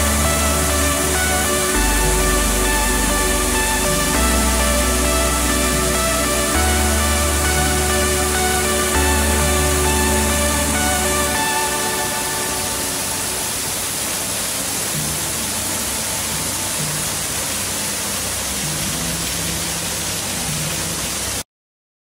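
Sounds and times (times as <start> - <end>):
faint low music notes: 0.0 - 21.4
waterfall pouring over rocks: 0.0 - 21.4.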